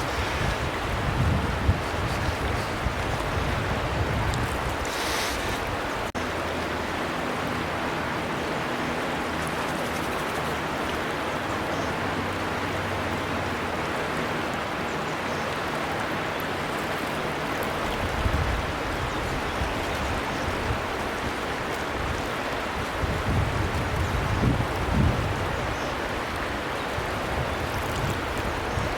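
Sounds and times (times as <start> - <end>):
river flowing: 0.0 - 28.9.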